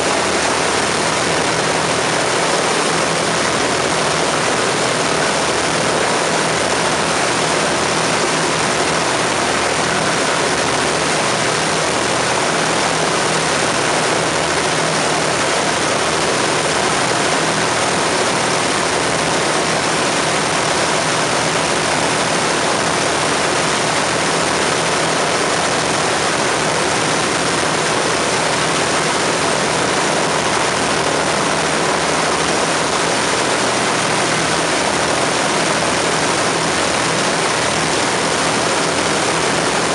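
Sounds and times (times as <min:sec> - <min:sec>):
propeller aircraft engines running: 0:00.0 - 0:39.9.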